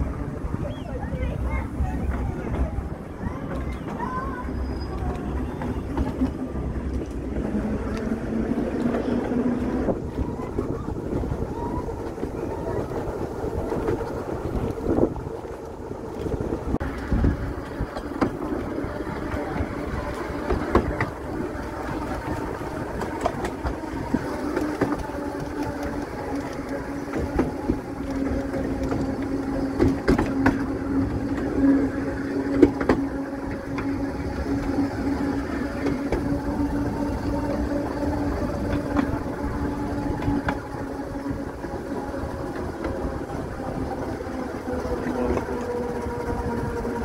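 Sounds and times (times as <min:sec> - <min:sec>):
tram running gear hum: 0:00.0 - 0:47.0
wheels clicking over rails: 0:00.0 - 0:47.0.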